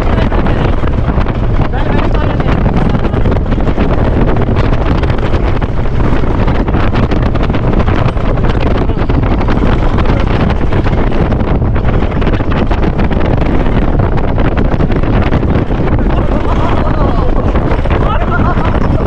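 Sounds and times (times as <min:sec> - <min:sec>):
wind buffeting the microphone: 0:00.0 - 0:19.0.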